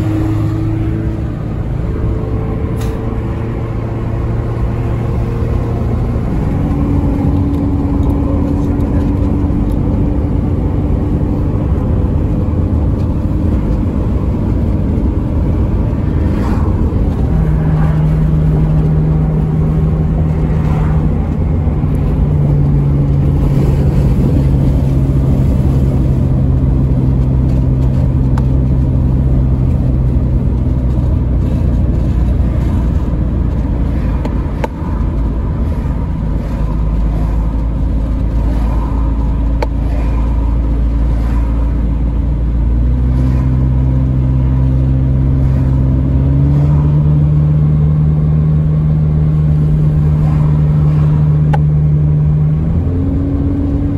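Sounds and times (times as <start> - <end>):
car engine hum: 0.0 - 53.9
road noise: 0.0 - 53.9.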